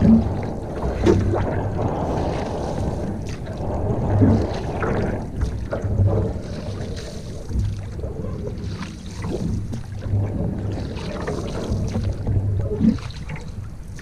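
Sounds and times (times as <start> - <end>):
water sloshing and splashing: 0.0 - 14.0
wind on microphone: 0.0 - 14.0.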